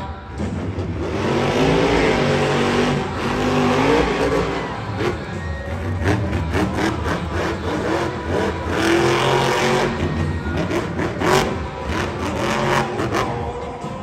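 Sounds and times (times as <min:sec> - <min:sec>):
truck engine revving: 0:00.3 - 0:14.0.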